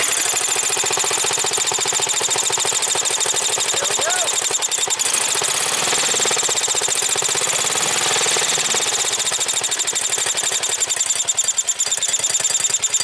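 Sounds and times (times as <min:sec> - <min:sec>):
single-cylinder engine running: 0:00.0 - 0:13.0.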